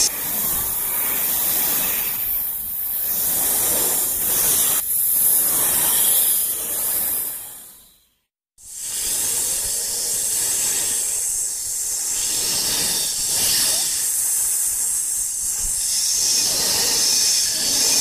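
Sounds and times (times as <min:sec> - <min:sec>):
steady high hiss: 0:00.0 - 0:07.4, 0:08.7 - 0:18.0.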